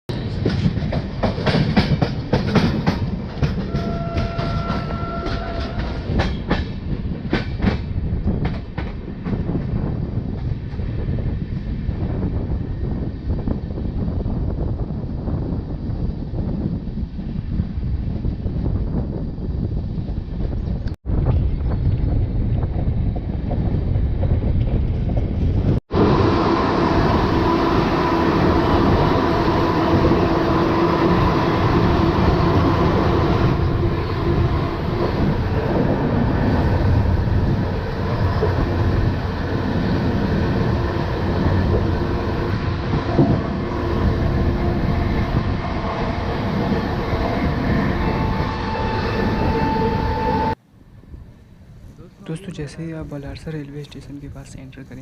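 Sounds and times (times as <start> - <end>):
train wheels rumbling on rails: 0.1 - 50.6
rushing air: 5.4 - 52.2.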